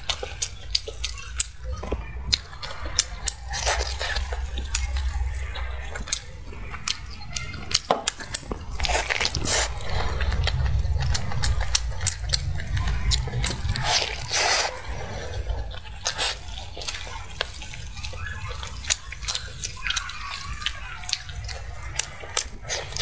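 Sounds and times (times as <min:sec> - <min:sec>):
biting and chewing: 0:00.0 - 0:23.0.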